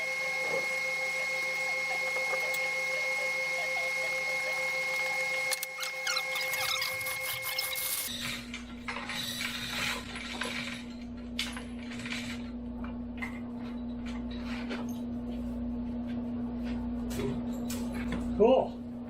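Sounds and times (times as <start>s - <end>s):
steady electric hum: 0.0s - 19.0s.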